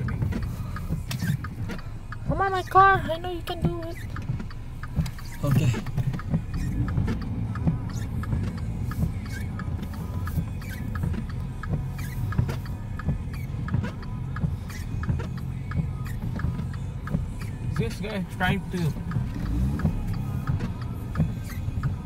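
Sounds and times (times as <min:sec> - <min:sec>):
car engine running under load: 0:00.0 - 0:22.0.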